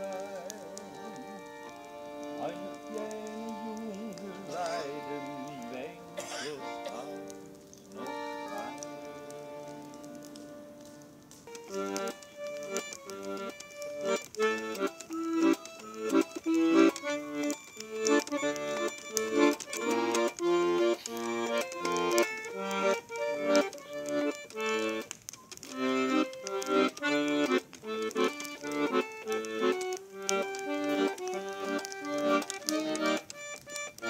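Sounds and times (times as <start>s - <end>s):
accordion playing folk melody: 0.0s - 34.0s.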